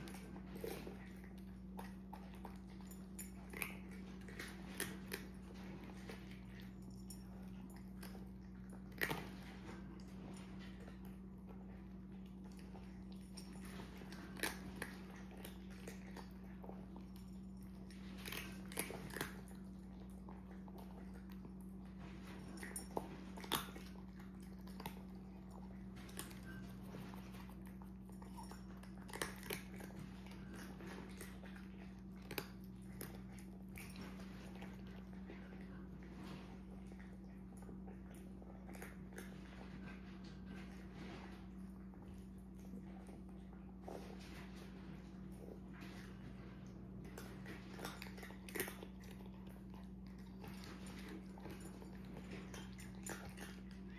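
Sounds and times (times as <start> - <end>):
cats crunching food: 0.0 - 53.9.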